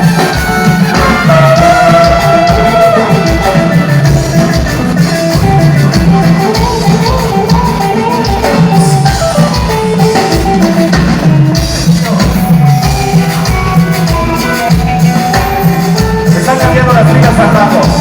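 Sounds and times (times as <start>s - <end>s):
live band playing latin music: 0.0s - 18.0s.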